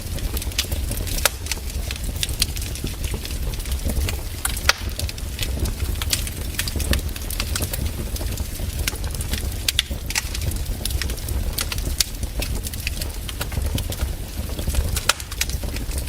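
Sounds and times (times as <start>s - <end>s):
low rumble of burning: 0.0s - 16.0s
wood fire crackling: 0.0s - 16.0s.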